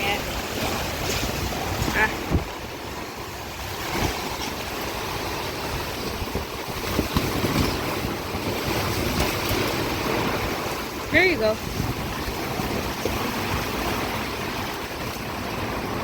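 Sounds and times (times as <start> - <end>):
heavy rain: 0.0 - 16.0
wind buffeting microphone: 0.0 - 16.0.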